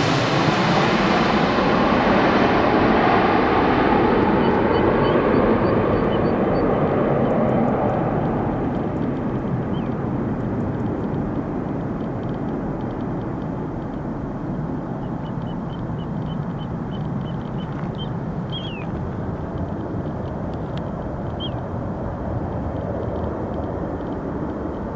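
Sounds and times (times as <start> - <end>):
jet engine rumble: 0.0 - 24.9.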